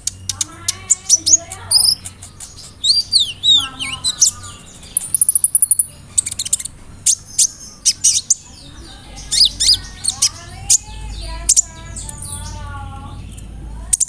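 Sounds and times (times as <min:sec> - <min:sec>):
bird high chips: 0:00.0 - 0:14.0.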